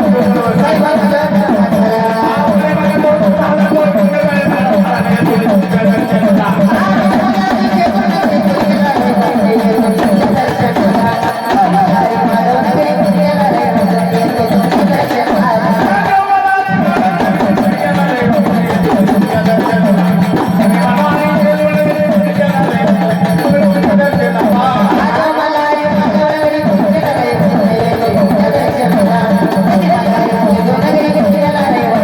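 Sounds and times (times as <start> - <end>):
hand drum: 0.0 - 32.0.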